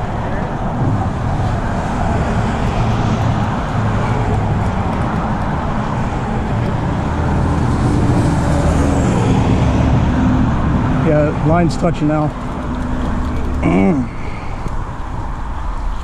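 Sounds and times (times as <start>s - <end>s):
low engine hum: 0.0s - 16.0s
road traffic rushing: 0.0s - 16.0s.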